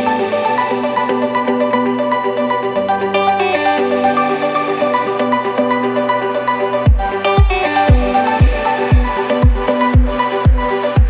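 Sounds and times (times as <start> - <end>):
electronic music with synth: 0.0 - 11.0.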